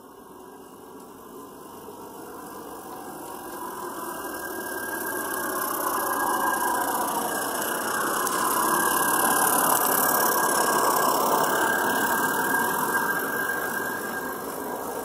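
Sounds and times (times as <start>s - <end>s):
steam locomotive exhaust: 0.0s - 15.0s
wagons rolling over track: 0.0s - 15.0s.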